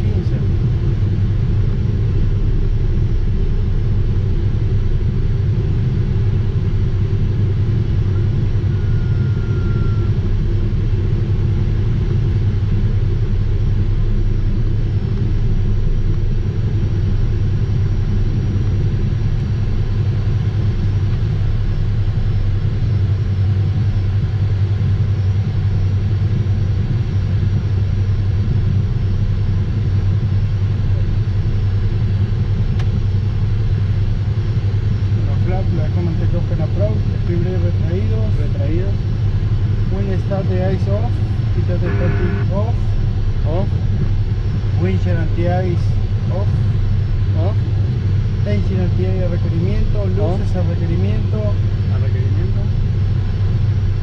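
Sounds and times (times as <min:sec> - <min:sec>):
jet engines humming in cockpit: 0:00.0 - 0:54.0.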